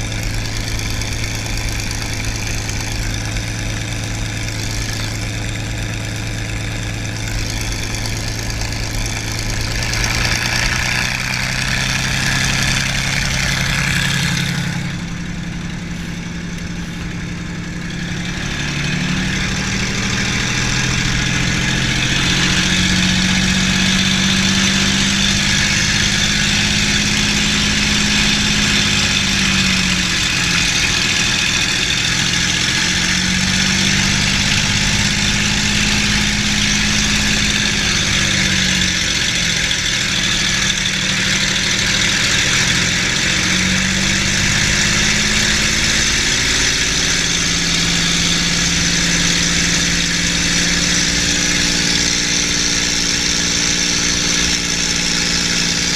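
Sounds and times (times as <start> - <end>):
aircraft engine running: 0.0 - 55.9.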